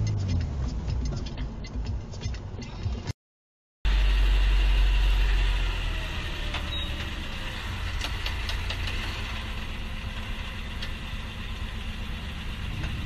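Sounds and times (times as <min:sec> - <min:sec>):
vehicle engine rumble: 0:00.0 - 0:03.2, 0:03.9 - 0:13.0.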